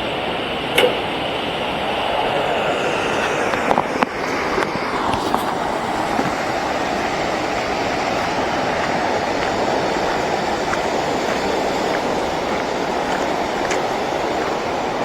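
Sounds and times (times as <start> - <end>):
waterfall rushing: 2.8 - 15.0.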